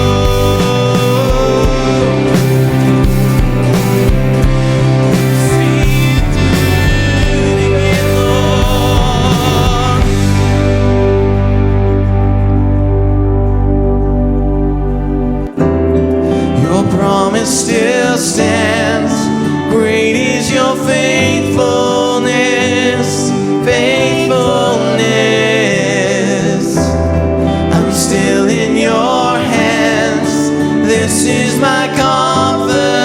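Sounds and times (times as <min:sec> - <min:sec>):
person singing with vibrato: 0:00.0 - 0:12.1, 0:14.1 - 0:33.0
sustained instrumental chords: 0:00.0 - 0:33.0.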